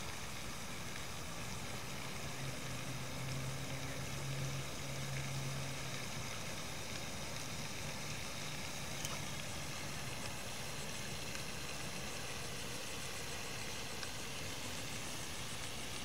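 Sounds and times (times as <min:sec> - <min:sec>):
low engine-like hum: 0:00.0 - 0:16.0
outdoor background hiss: 0:00.0 - 0:16.0.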